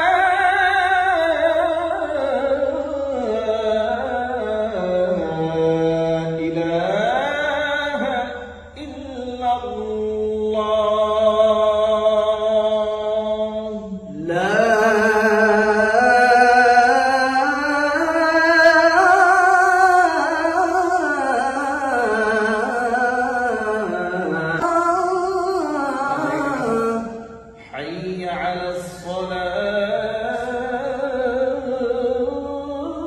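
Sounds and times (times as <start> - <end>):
man chanting: 0.0 - 33.0.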